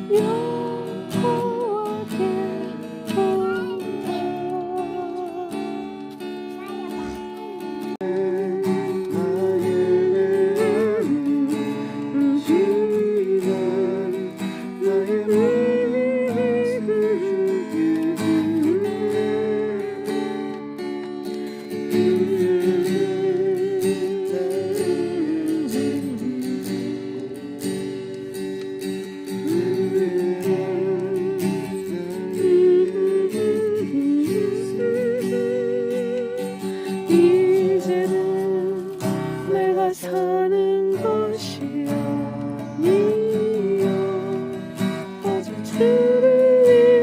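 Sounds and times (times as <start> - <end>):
acoustic guitar strumming: 0.0 - 47.0
person singing slow melody: 0.0 - 47.0.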